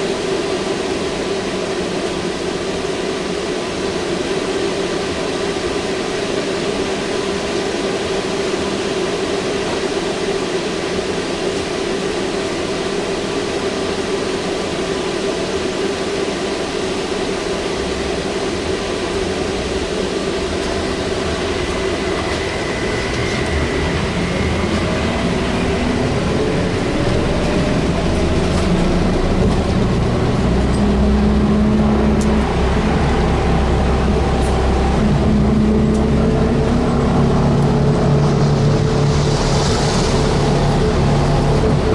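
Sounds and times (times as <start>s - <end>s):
rising whine: 0.0s - 41.9s
trolleybus interior hum and rumble: 0.0s - 41.9s.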